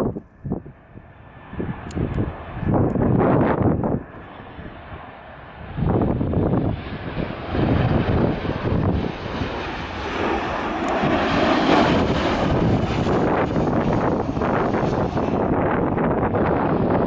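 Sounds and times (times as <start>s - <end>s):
aircraft engine: 0.0s - 17.0s
wind buffeting microphone: 0.0s - 17.0s.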